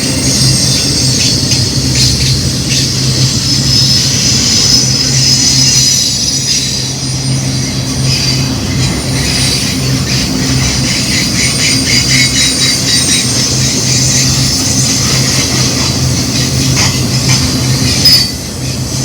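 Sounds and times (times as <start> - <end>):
freight train rumbling: 0.0 - 19.0
wheel squeal: 0.0 - 19.0.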